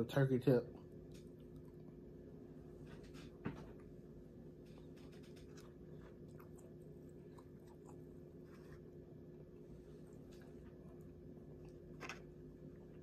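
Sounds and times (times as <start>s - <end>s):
low hum: 0.0s - 13.0s
faint chewing: 0.7s - 13.0s.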